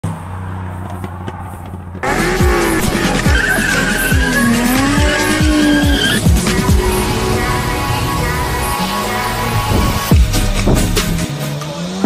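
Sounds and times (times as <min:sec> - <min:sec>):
car engine droning: 0:00.0 - 0:12.0
music with booming bass drums: 0:02.0 - 0:12.0.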